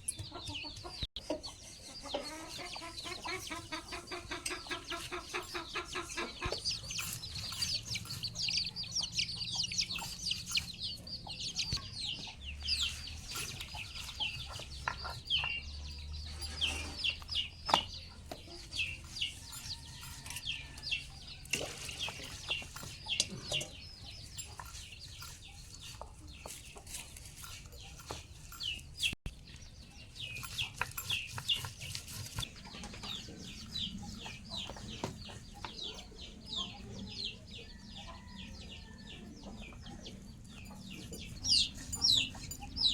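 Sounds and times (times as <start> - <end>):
chickens peeping: 0.0 - 42.9.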